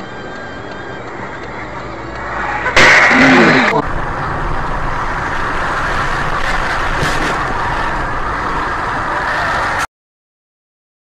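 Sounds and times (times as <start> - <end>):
car road and engine noise: 0.0 - 9.9.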